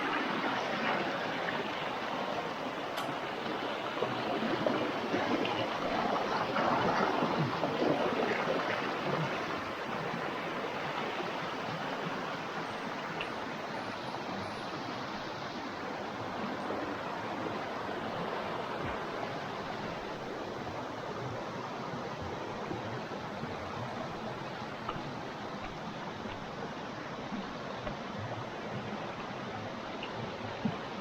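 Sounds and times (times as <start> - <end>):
rushing river water: 0.0 - 31.0.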